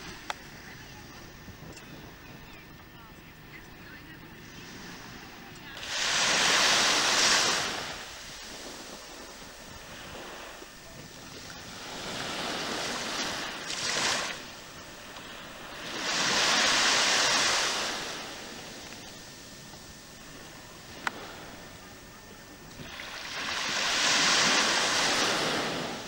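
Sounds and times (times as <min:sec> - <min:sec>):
wind rumble on microphone: 0:00.0 - 0:26.0
small waves washing: 0:03.6 - 0:26.0.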